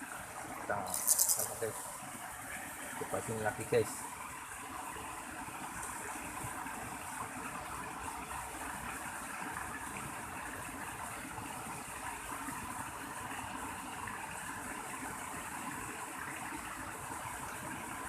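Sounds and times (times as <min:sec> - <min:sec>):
small stream flowing: 0:00.0 - 0:18.0.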